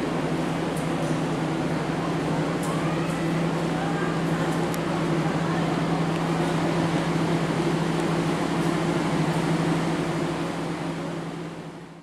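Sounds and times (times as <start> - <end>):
diesel train engine droning: 0.0 - 12.0.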